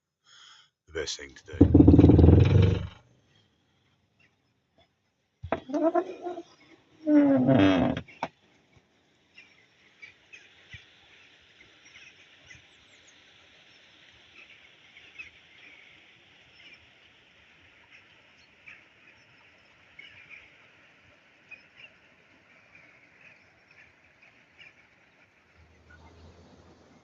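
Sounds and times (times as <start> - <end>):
soft outdoor hiss: 0.0 - 27.0.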